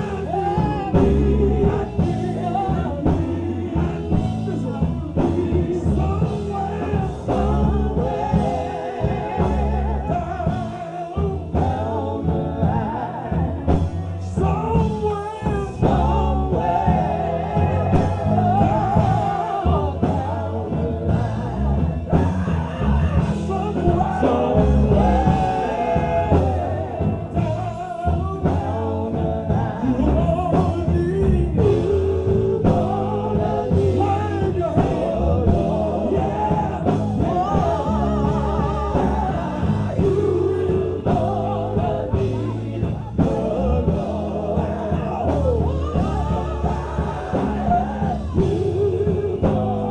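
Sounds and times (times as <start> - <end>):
gospel singing with instruments: 0.0 - 49.9.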